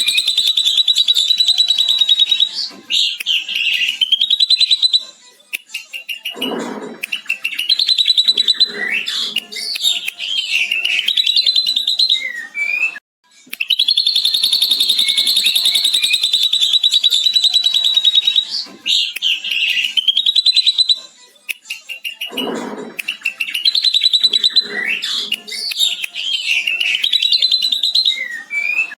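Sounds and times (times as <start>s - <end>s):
bird trill: 0.0s - 5.1s, 5.8s - 13.0s, 13.6s - 21.1s, 21.8s - 28.9s
bird singing varied chatter: 0.0s - 5.2s, 7.1s - 12.9s, 13.6s - 21.1s, 23.0s - 28.9s.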